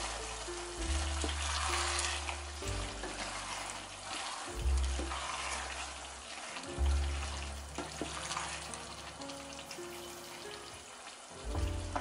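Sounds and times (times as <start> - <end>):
background music with bass notes: 0.0 - 6.1, 6.7 - 10.8, 11.4 - 12.0
chicken sizzling in a pot: 0.0 - 12.0.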